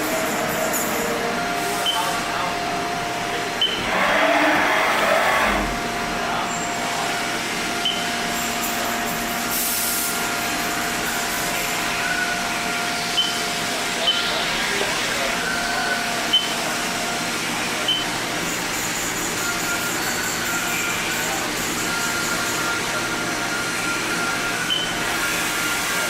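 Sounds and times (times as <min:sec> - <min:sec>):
machining center humming and whining: 0:00.0 - 0:26.0.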